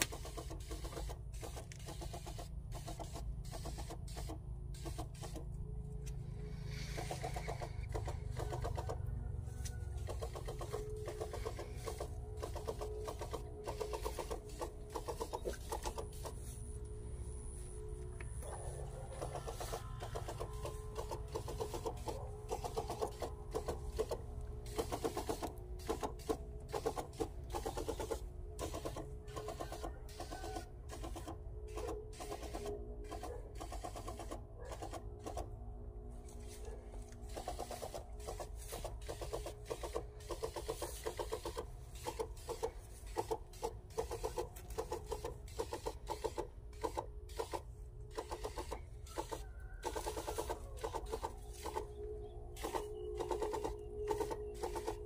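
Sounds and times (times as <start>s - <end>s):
sprayer pump clattering: 0.0s - 9.0s, 9.9s - 16.5s, 18.4s - 35.5s, 36.4s - 51.9s
steady hum: 0.0s - 49.1s.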